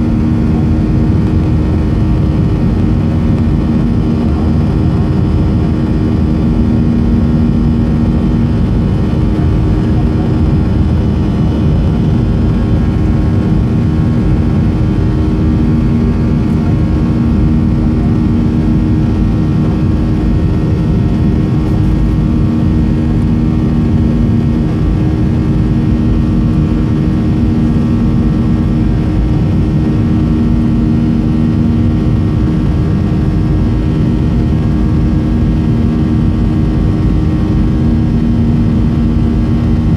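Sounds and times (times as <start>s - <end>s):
airplane cabin engine noise: 0.0s - 39.9s
low steady hum: 0.0s - 39.9s.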